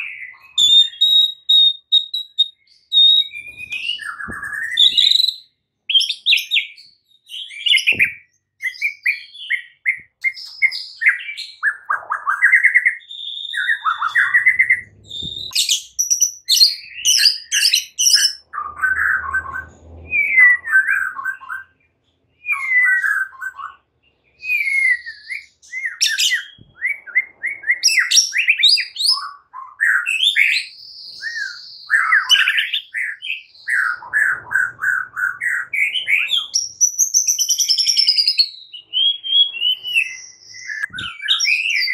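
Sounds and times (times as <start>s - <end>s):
bird singing whistles and trills: 0.0s - 41.9s.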